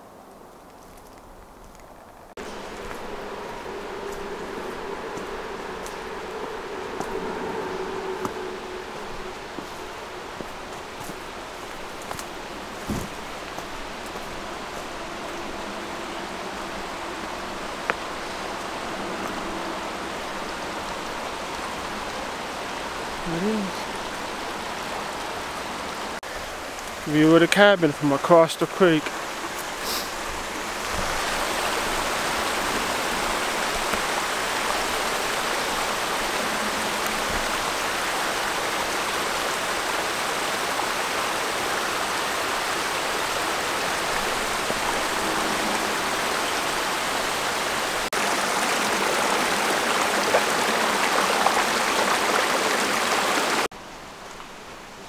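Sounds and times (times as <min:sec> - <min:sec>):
water rushing over rocks: 0:02.4 - 0:53.8.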